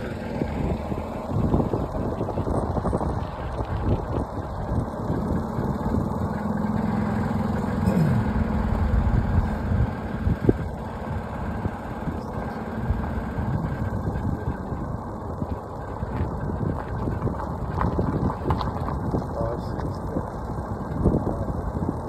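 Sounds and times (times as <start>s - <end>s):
motor vehicle running: 0.0s - 22.0s.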